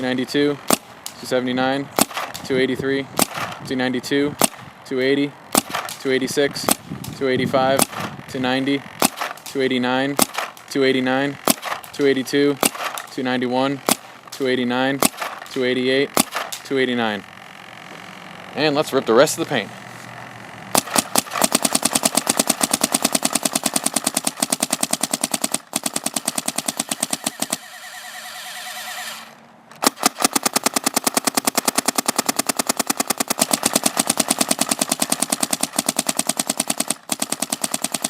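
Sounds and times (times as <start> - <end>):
paintball marker firing rapidly: 0.5 - 1.2, 1.9 - 4.8, 5.4 - 17.2, 20.7 - 28.0, 29.7 - 38.0.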